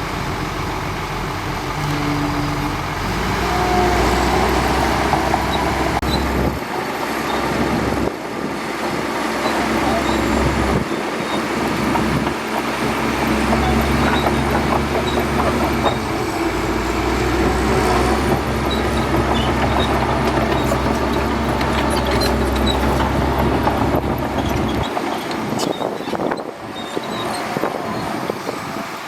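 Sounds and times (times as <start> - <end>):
bulldozer diesel engine running: 0.0 - 29.0
steel tracks clattering: 0.1 - 29.0.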